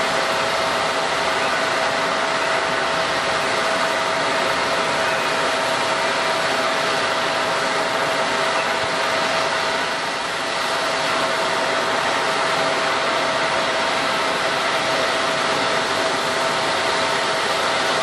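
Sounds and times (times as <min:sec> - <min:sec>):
jet engine whine: 0:00.0 - 0:18.0
jet engines roaring: 0:00.0 - 0:18.0.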